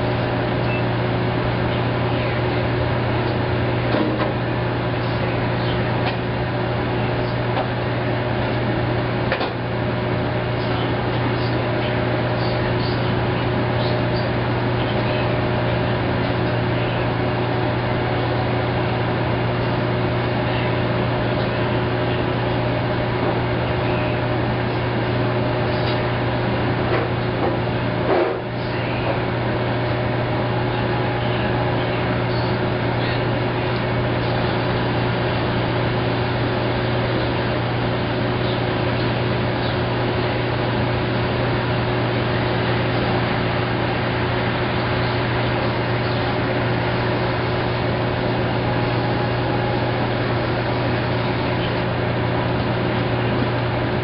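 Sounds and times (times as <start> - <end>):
washing machine humming: 0.0 - 54.0.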